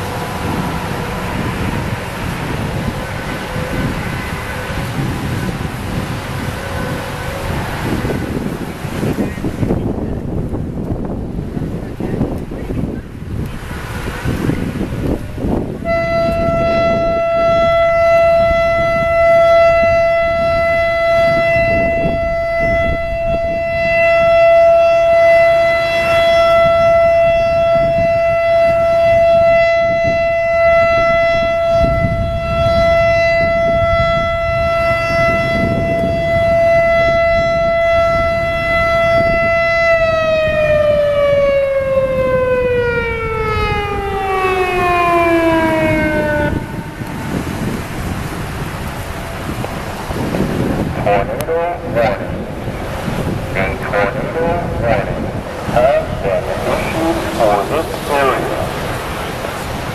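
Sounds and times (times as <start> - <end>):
electronic warning siren: 0.0 - 9.2, 13.8 - 59.9.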